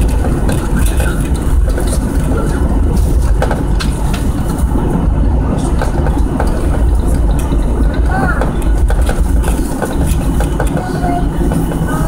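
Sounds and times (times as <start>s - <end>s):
jet engines and wheels rumbling: 0.0s - 12.0s.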